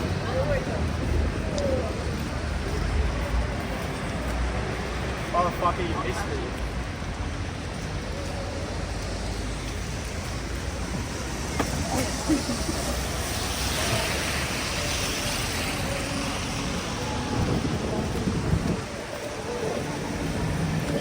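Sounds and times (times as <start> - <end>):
distant voices: 0.0 - 21.0
traffic noise: 0.0 - 21.0.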